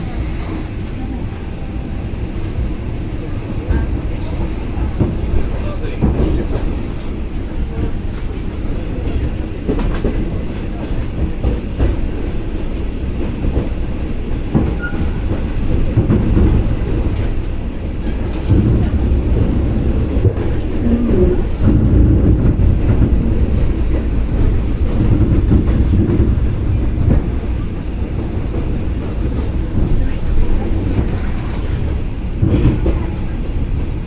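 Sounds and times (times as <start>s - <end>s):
rail joint clicks: 0.0s - 34.0s
train wheels rumbling on rails: 0.0s - 34.0s.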